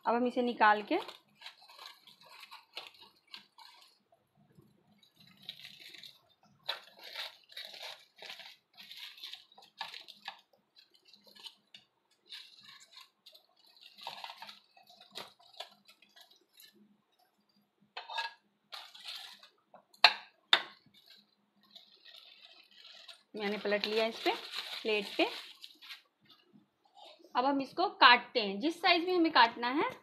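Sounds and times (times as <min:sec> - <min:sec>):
aluminium foil crinkling: 0:00.1 - 0:27.5.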